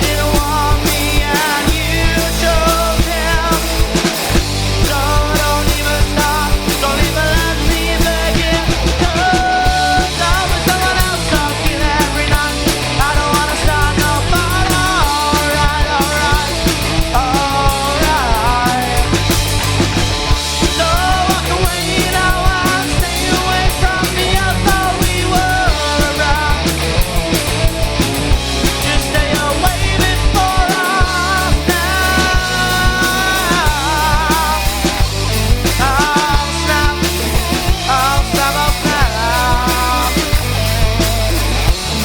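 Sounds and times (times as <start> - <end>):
bending lead guitar line: 0.0 - 42.0
rock band playing punk rock: 0.0 - 42.0.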